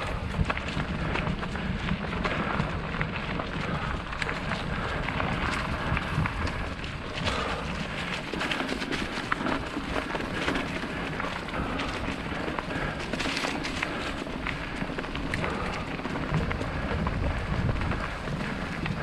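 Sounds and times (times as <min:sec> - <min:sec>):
bike tyres crunching on dirt: 0:00.0 - 0:19.0
small clicks and rattles: 0:00.0 - 0:19.0
wind on microphone: 0:00.0 - 0:19.0.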